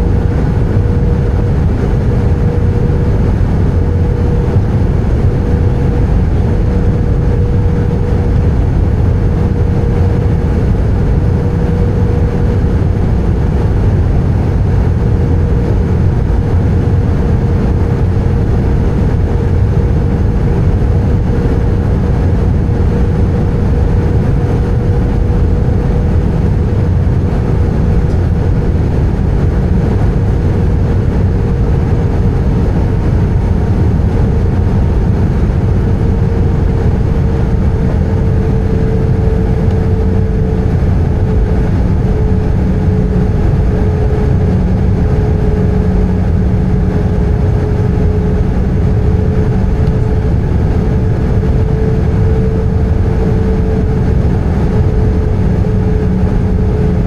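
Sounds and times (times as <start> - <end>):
airplane cabin engine roar: 0.0 - 57.0.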